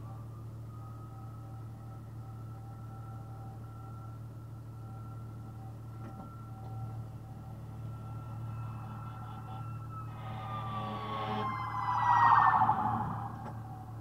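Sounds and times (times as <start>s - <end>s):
fire engine siren: 0.0s - 14.0s
idling engine hum: 0.0s - 14.0s.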